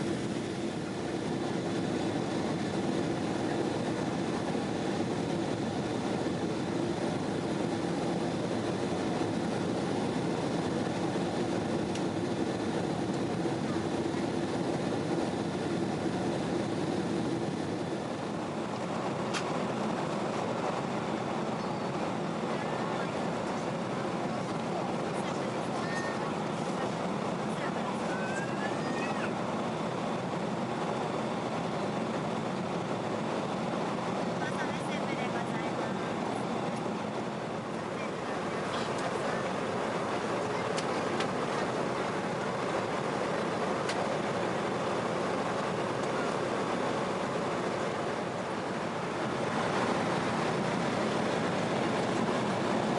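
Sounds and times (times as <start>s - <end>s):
airliner cabin engine drone: 0.0s - 52.9s
constant low hum: 0.0s - 52.9s.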